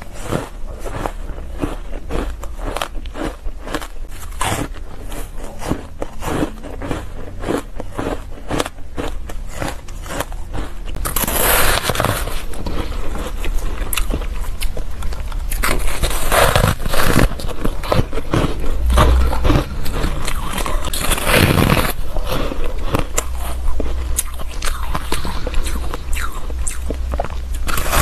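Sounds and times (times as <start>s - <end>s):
chewing ice crunching: 0.0s - 28.0s.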